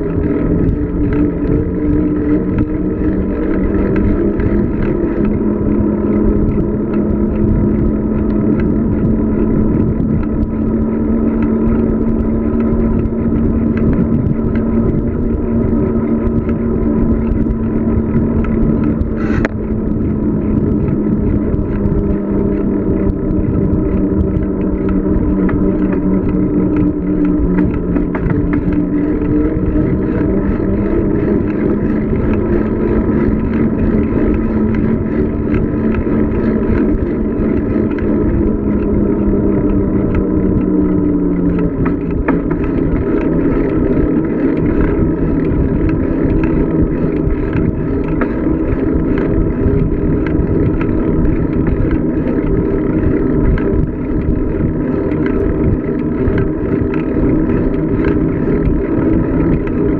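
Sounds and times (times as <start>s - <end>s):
droning hum: 0.0s - 59.9s
rolling and rushing noise: 0.0s - 59.9s.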